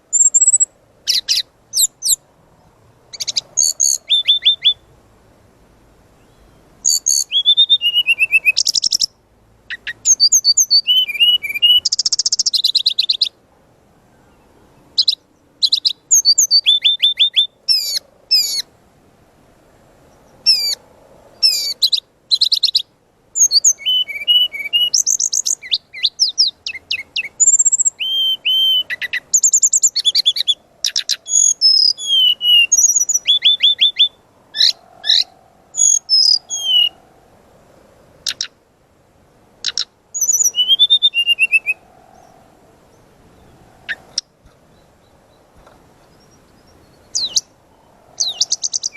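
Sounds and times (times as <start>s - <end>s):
bird singing chirps and trills: 0.1s - 5.0s, 6.2s - 13.4s, 14.1s - 18.7s, 20.1s - 37.1s, 38.2s - 38.6s, 39.6s - 48.9s.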